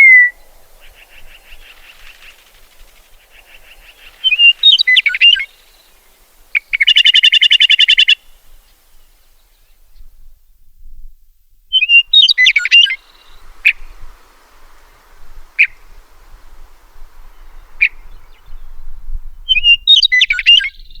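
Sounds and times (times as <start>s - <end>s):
meadowlark singing: 0.0s - 10.1s, 11.7s - 21.0s.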